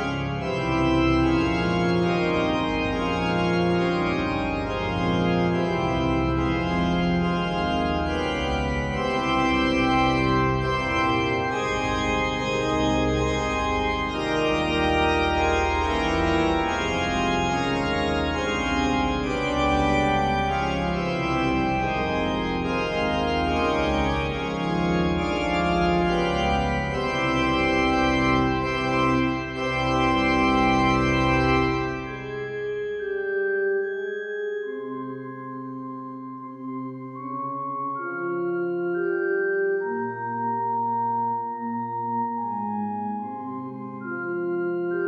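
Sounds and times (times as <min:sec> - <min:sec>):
organ chords: 0:00.0 - 0:45.0.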